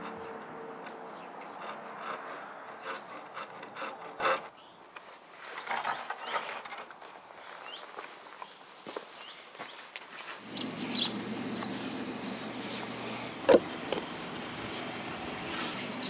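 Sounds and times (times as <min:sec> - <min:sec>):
uneven scraping and rubbing: 0:00.0 - 0:16.0.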